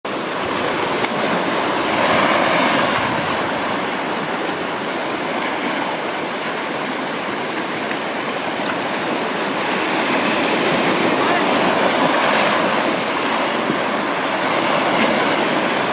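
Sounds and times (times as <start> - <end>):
waves washing among boulders: 0.1 - 15.9.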